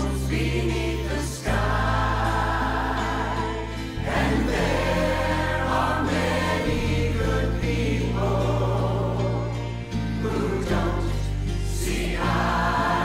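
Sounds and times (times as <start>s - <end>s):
mixed choir singing: 0.0s - 13.0s.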